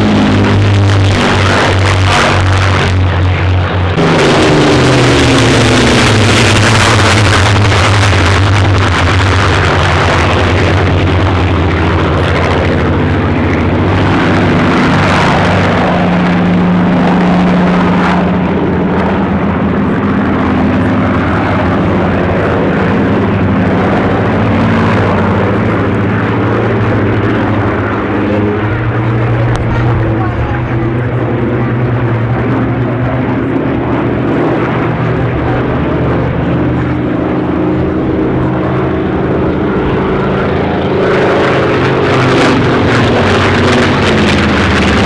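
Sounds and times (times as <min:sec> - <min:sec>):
propeller plane engines flying past: 0:00.0 - 0:45.0.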